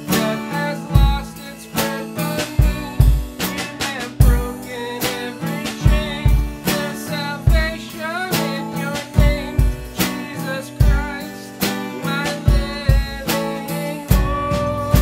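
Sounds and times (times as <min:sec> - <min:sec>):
drum kit with cymbals: 0:00.0 - 0:15.0
man singing: 0:00.0 - 0:15.0
strummed acoustic guitar: 0:00.0 - 0:15.0.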